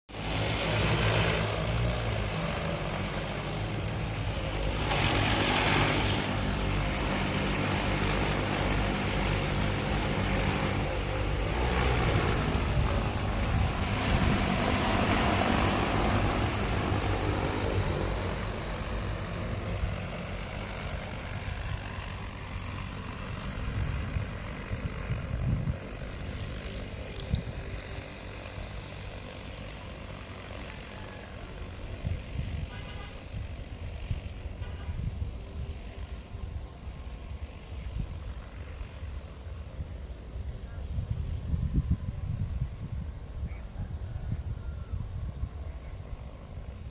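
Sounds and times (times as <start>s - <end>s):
drone rotors whirring: 0.1s - 41.8s.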